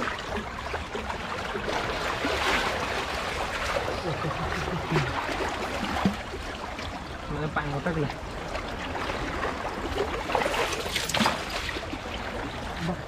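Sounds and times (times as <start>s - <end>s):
seawater sloshing and splashing: 0.0s - 13.0s.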